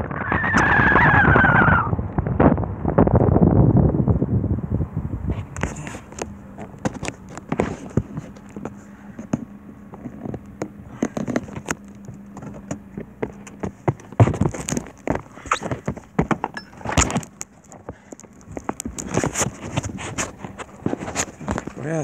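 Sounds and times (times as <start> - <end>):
low steady hum: 0.0 - 22.0
wind noise on microphone: 0.0 - 22.0.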